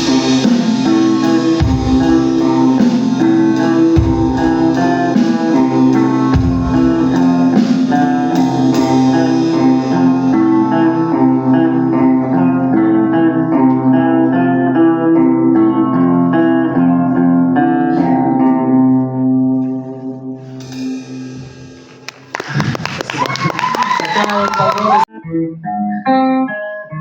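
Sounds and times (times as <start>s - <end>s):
guitar-led band music: 0.0s - 22.8s, 24.4s - 27.0s.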